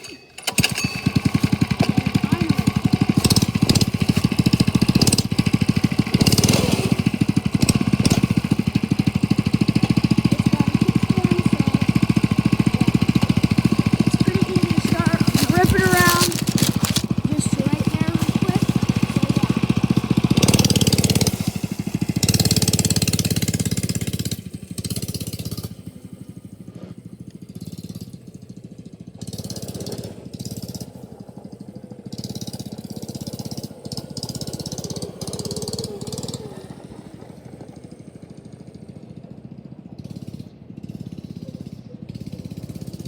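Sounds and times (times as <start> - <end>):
small engine putt-putt: 0.0 - 43.0.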